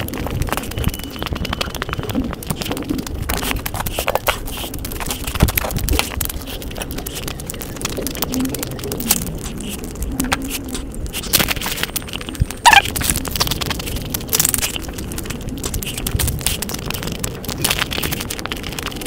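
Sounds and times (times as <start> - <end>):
chewing and crunching: 0.0 - 19.0.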